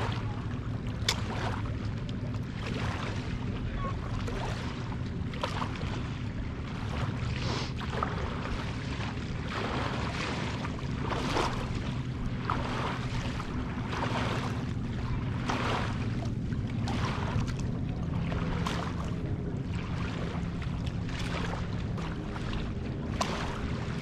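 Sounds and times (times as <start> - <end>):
steady low hum: 0.0 - 24.0
waves lapping at shore: 0.0 - 24.0.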